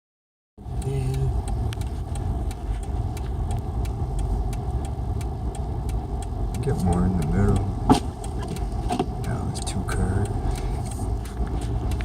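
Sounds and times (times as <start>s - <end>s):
car engine and tyre rumble: 0.6s - 12.0s
light sharp ticks: 0.6s - 12.0s.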